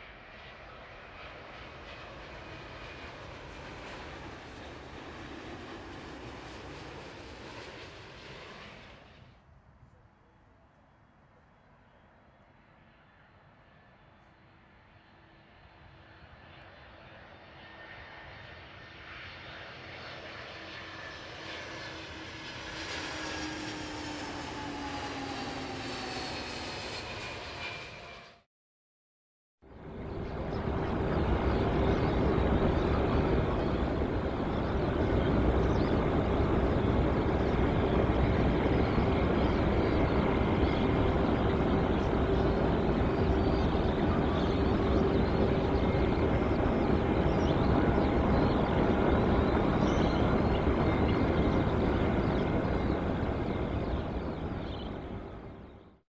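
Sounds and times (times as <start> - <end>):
jet airliner engines roaring: 0.0 - 9.3, 12.5 - 28.5, 29.7 - 56.0.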